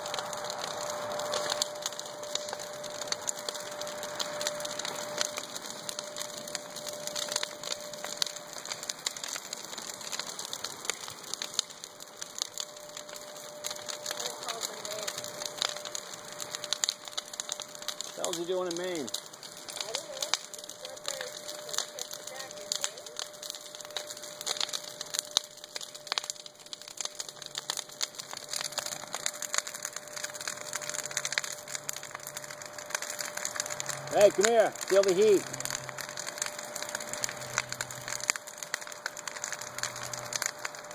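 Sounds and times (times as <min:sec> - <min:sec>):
bonfire crackling and popping: 0:00.0 - 0:40.9
fire hissing: 0:00.0 - 0:40.9.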